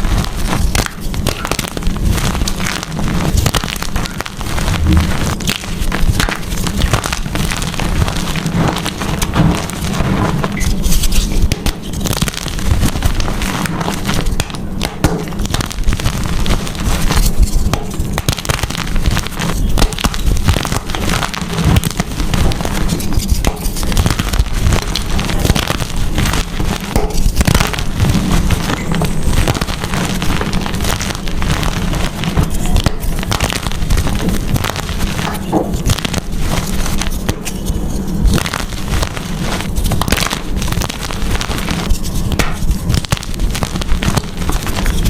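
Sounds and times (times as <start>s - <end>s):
chalk being crushed: 0.0s - 45.0s.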